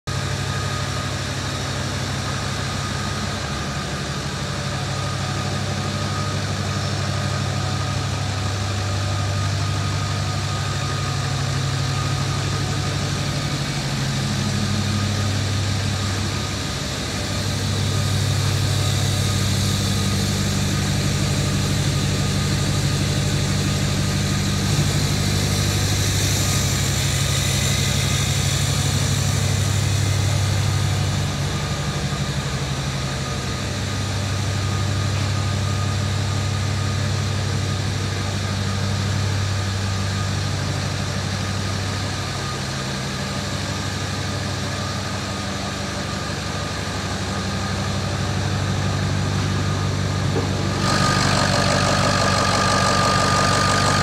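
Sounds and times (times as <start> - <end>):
diesel engine idling: 0.1 - 54.0.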